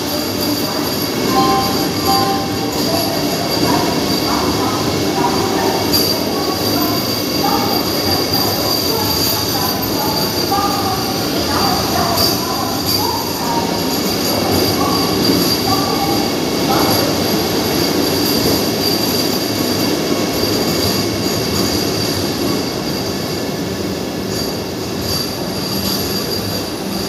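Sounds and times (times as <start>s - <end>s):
train wheels squealing on rails: 0.0s - 27.0s.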